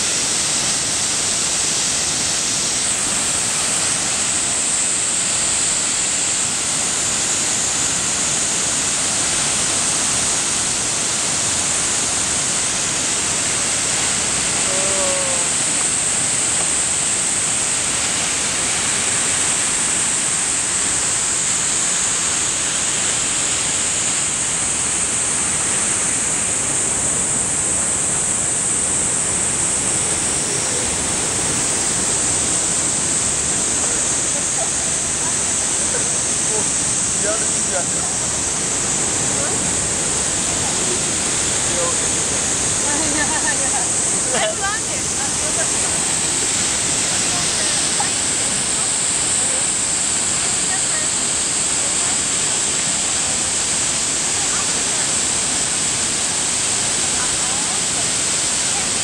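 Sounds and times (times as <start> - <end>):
steady high hiss: 0.0 - 59.0
waterfall rushing: 0.0 - 59.0.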